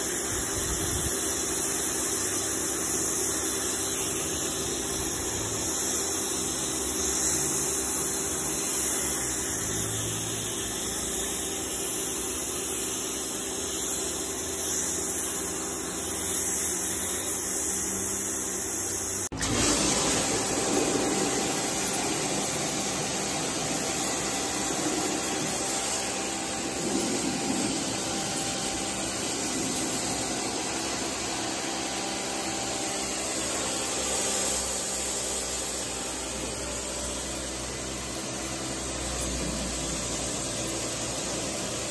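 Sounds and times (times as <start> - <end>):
pressure washer pump drone: 0.0 - 41.9
water jet hissing: 0.0 - 41.9.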